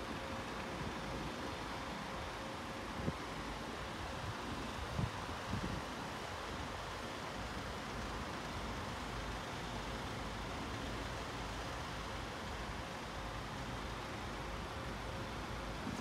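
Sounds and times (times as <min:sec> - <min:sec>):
distant traffic rumble and hiss: 0:00.0 - 0:16.0.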